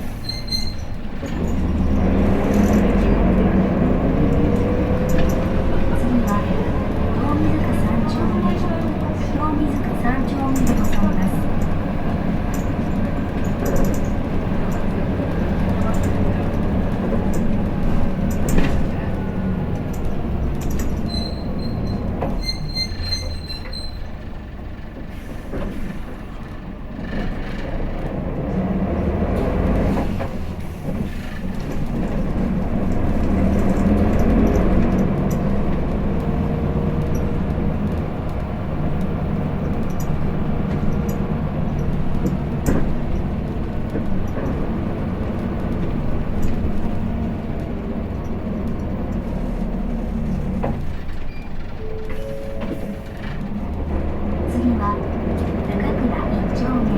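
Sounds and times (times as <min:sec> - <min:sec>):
bus engine running under load: 0:00.0 - 0:56.9.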